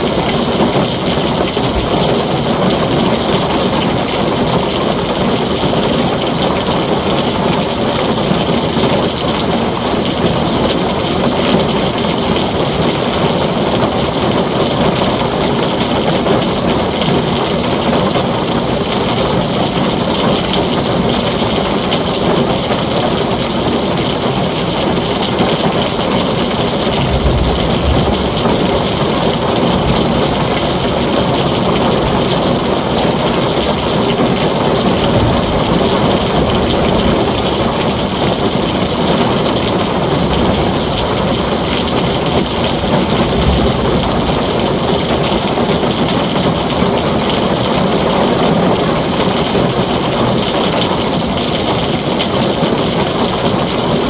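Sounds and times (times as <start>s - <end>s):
heavy rain on a tin roof: 0.0s - 54.0s
thunder rumbling: 0.0s - 54.0s.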